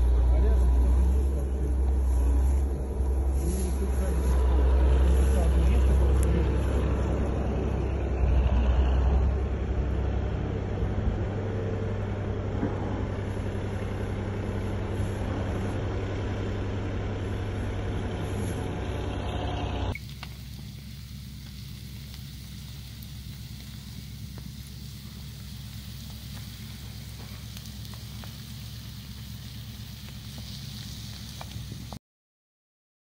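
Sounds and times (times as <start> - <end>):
diesel engine droning: 0.0 - 32.0
fire hissing: 0.0 - 32.0.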